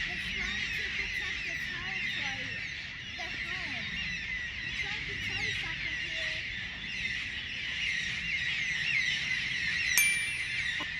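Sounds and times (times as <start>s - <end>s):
small birds chirping chorus: 0.0s - 10.9s.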